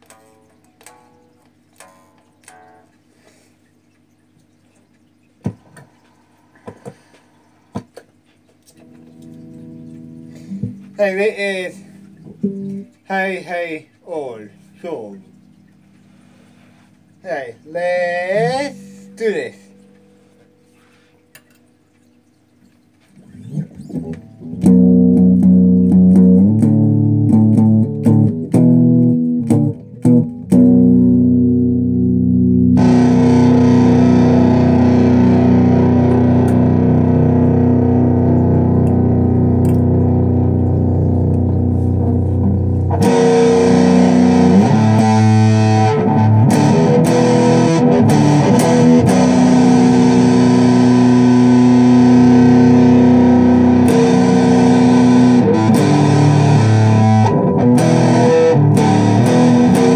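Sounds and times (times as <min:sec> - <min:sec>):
distorted electric guitar: 0:00.0 - 0:03.1, 0:06.6 - 0:13.8, 0:14.5 - 0:20.8, 0:23.2 - 0:59.9.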